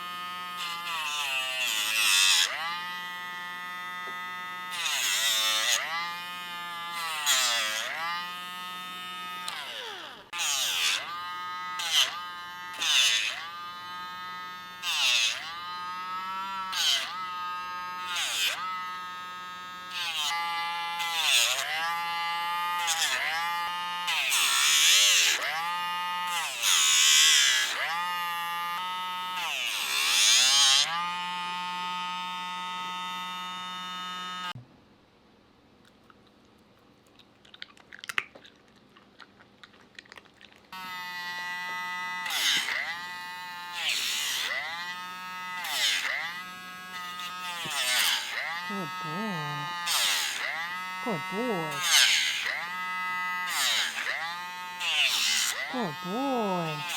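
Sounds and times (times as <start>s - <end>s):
electric nail grinder running: 0.0s - 34.6s, 40.8s - 56.9s.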